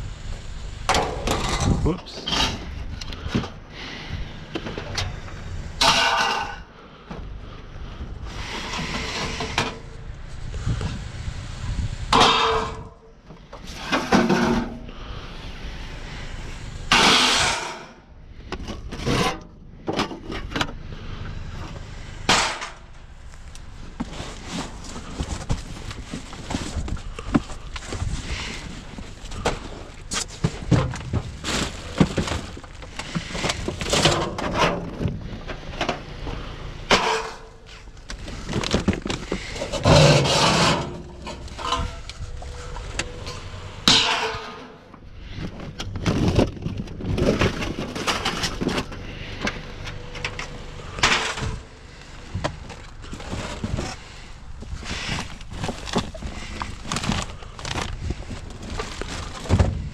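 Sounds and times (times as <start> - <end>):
trash rummaged in metal dumpster: 0.9 - 3.9, 4.5 - 10.7, 12.1 - 14.9, 16.2 - 20.9, 21.5 - 59.9.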